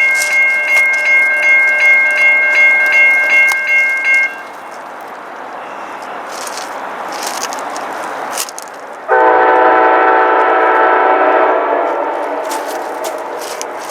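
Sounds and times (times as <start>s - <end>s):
railroad crossing bell ringing: 0.0s - 8.3s, 9.1s - 13.9s.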